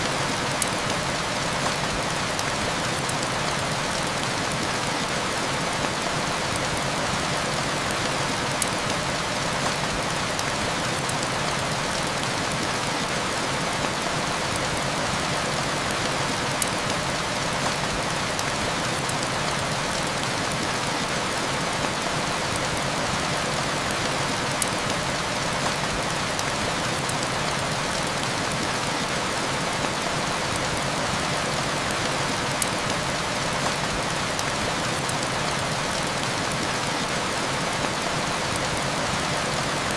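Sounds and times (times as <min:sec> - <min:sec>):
heavy rain hissing: 0:00.0 - 0:39.9
wood fire crackling: 0:00.0 - 0:39.9.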